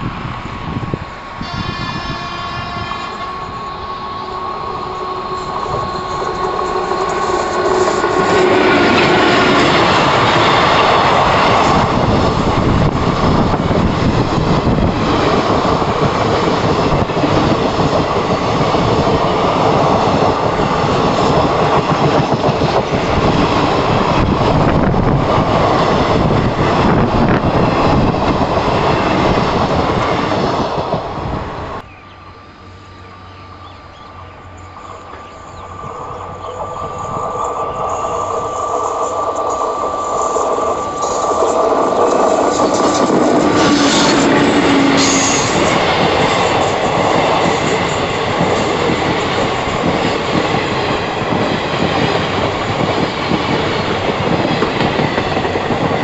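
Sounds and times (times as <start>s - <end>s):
train coaches clattering past: 0.0s - 56.0s
train wheels rumbling on rails: 0.0s - 56.0s.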